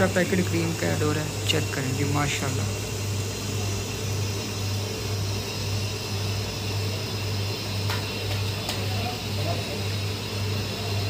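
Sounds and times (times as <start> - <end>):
gas burner rumble and hiss: 0.0 - 11.0.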